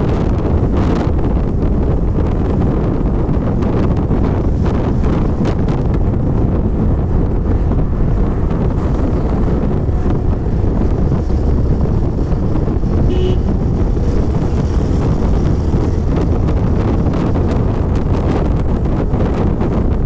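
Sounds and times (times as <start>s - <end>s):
motorcycle running: 0.0s - 20.0s
road noise: 0.0s - 20.0s
wind buffeting microphone: 0.0s - 20.0s.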